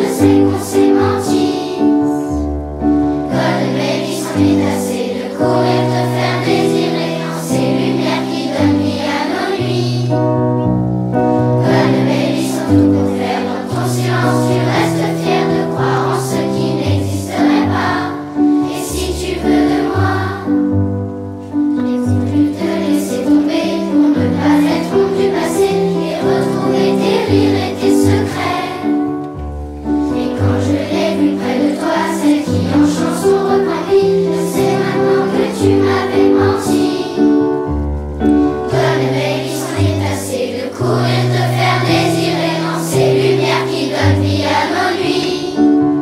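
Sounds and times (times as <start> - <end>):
children's choir singing: 0.0 - 46.0.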